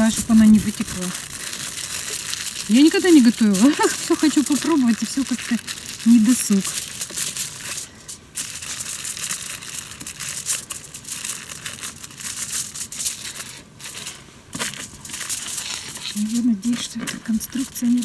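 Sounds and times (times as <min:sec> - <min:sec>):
aluminium foil crinkling: 0:00.0 - 0:18.0.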